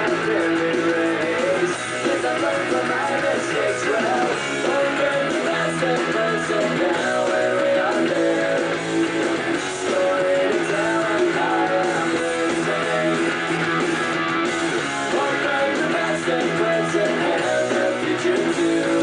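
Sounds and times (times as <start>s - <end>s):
guitar-driven music: 0.0s - 19.0s.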